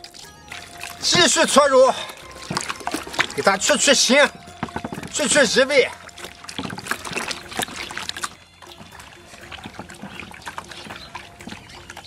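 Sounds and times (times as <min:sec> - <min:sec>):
intestines squelching in water: 0:00.0 - 0:12.0
water splashing: 0:00.0 - 0:12.0.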